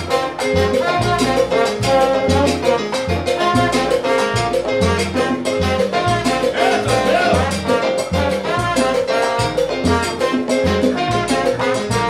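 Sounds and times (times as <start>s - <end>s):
congas: 0.0s - 12.0s
electric keyboard: 0.0s - 12.0s
live salsa band playing: 0.0s - 12.0s
trombone: 0.0s - 12.0s.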